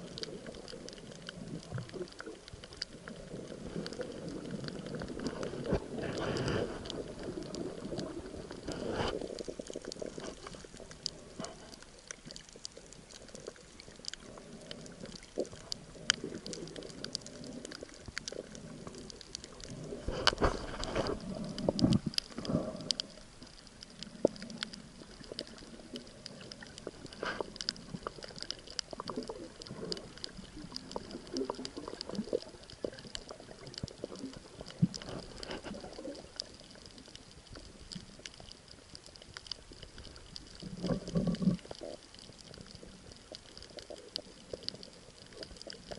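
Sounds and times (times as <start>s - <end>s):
sharp underwater clicks: 0.0s - 45.9s
underwater gurgling: 0.0s - 45.9s.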